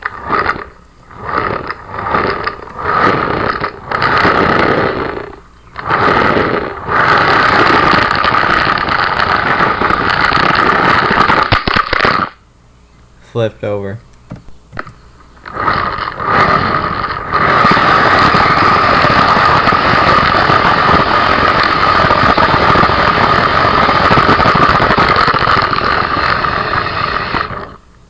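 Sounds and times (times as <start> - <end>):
rc car electric motor whining: 0.0 - 12.4, 14.3 - 27.8.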